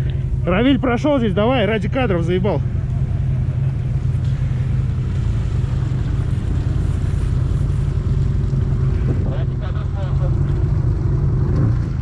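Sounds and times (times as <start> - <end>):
atv engine running steadily: 0.0 - 12.0.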